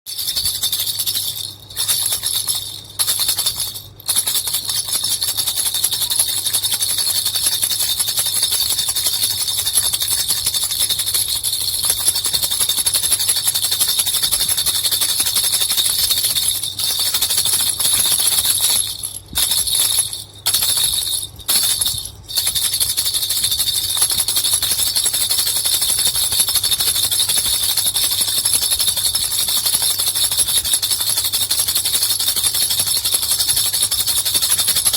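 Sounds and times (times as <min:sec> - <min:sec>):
baby rattle bells jingling: 0:00.1 - 0:34.9.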